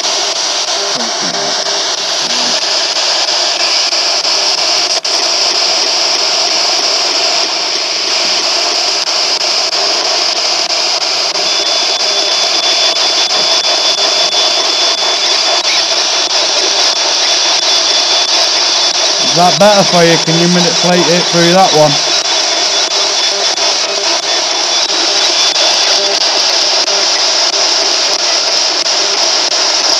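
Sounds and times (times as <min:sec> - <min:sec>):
radio static hiss: 0:00.0 - 0:29.9.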